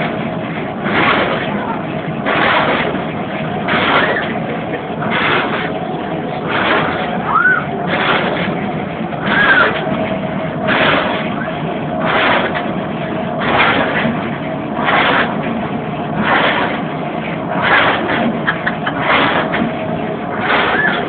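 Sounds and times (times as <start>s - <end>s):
clothes dryer running: 0.0s - 21.0s.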